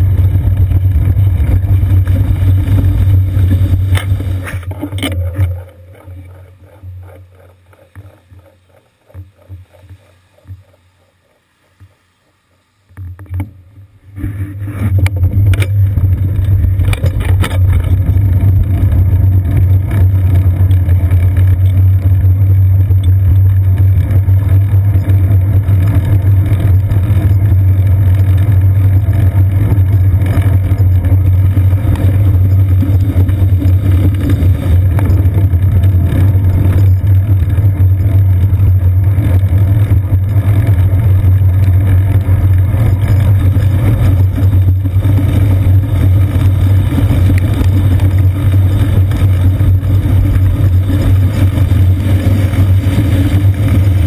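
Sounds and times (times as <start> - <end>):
road vibration rumble: 0.0 - 54.0
wind: 0.0 - 54.0.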